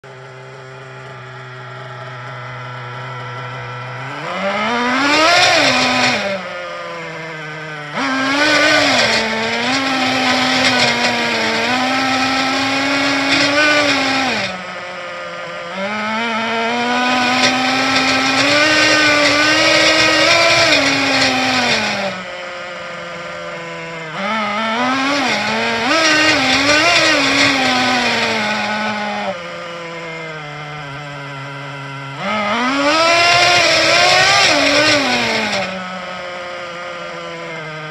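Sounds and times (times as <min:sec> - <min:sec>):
nitro engine revving: 0:00.0 - 0:37.9.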